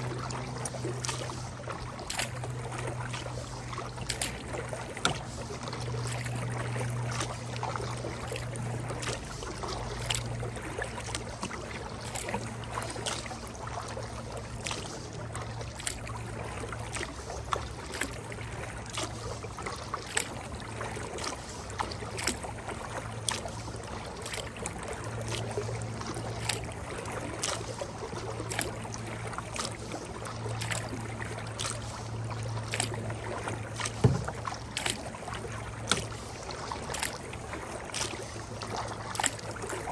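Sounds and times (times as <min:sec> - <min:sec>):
kayak paddle splashing in water: 0:00.0 - 0:39.9
steady low hum: 0:00.0 - 0:39.9.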